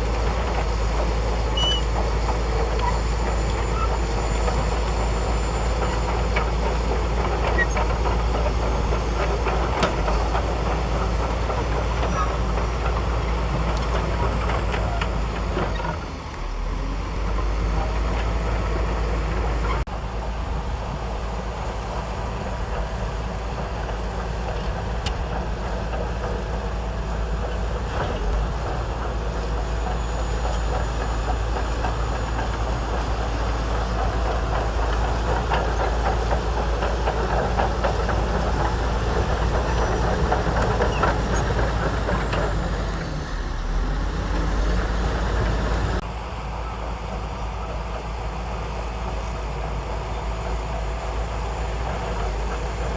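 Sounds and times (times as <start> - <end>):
steel tracks clattering: 0.0 - 16.5, 17.2 - 52.9
bulldozer diesel engine running: 0.0 - 52.9.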